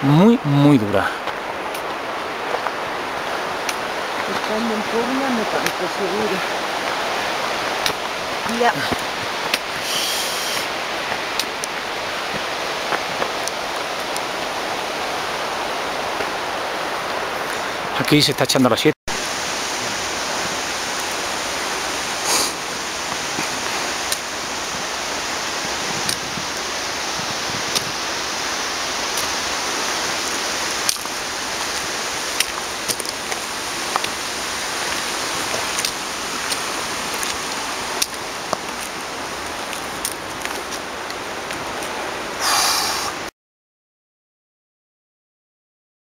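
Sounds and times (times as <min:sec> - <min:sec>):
running water rushing: 0:00.0 - 0:43.3.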